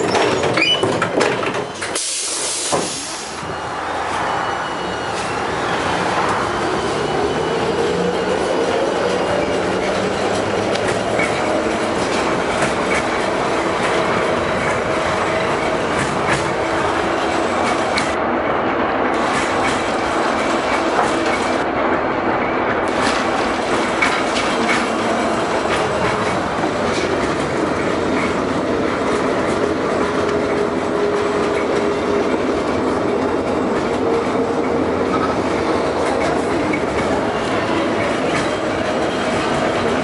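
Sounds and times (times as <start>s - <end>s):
tram wheels rumbling on rail: 0.0s - 40.0s.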